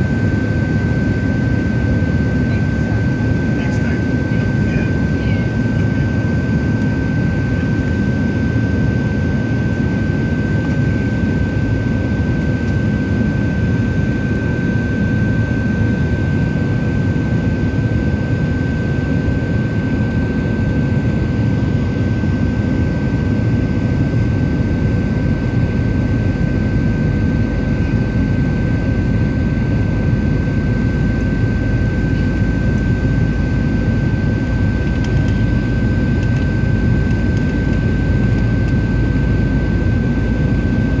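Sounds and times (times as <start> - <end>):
aircraft cabin roar: 0.0 - 41.0.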